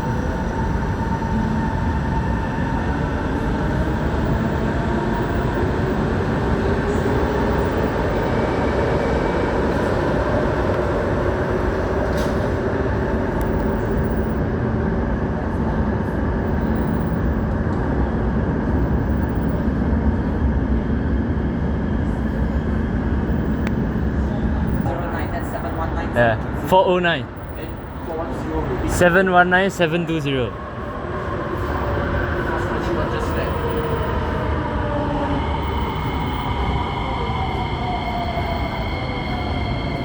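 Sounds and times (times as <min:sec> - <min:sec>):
train rumble with motor whine: 0:00.0 - 0:29.2, 0:30.6 - 0:40.0.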